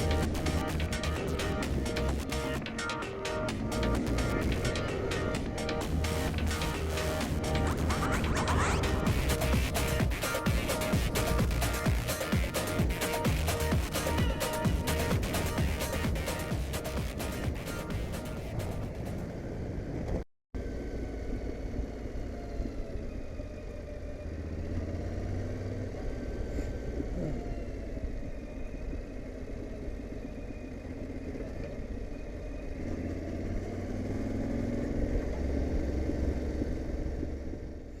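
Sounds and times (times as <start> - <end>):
motorcycle engine while riding: 0.0 - 38.0.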